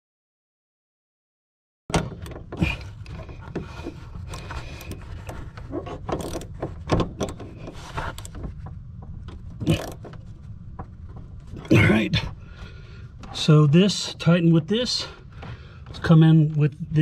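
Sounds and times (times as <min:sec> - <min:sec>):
steady low rumble: 0:02.3 - 0:17.0.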